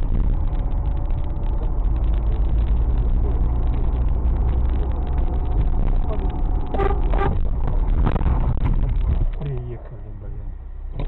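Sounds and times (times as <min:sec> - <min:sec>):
fine crackle: 0:00.0 - 0:09.6
car engine and road rumble: 0:00.0 - 0:11.0.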